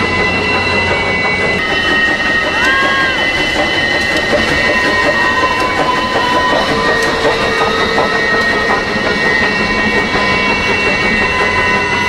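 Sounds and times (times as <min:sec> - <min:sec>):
high squealing tones: 0:00.0 - 0:12.0
train wheels rumbling on rails: 0:00.0 - 0:12.0.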